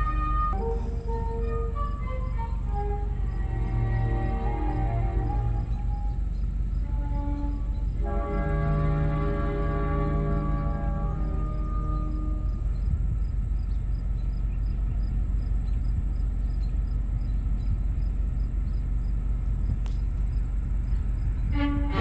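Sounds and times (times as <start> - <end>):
cricket chirps: 0.0 - 22.0
high insect trill: 0.0 - 22.0
low rumble: 0.0 - 22.0.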